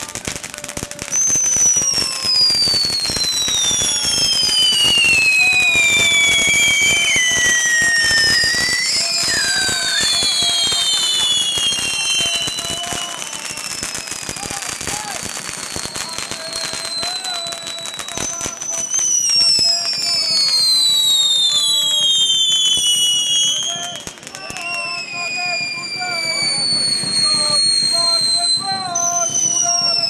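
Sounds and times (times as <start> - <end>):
crackle of burning sparks: 0.0 - 28.1
whistling fireworks: 0.0 - 30.0.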